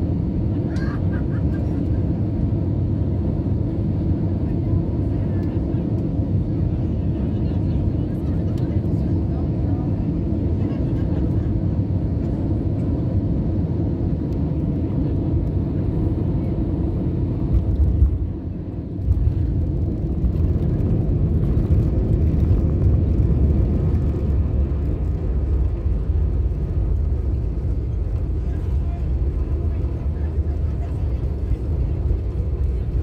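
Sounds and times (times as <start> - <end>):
aircraft cabin engine rumble: 0.0 - 33.0.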